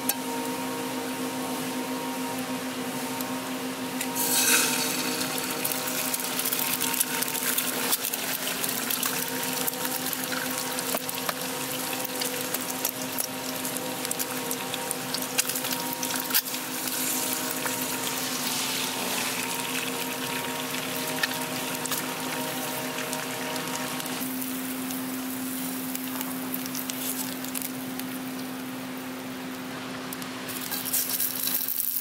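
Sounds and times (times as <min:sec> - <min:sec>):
egg sizzling in hot oil: 0:04.1 - 0:28.6, 0:30.5 - 0:32.0.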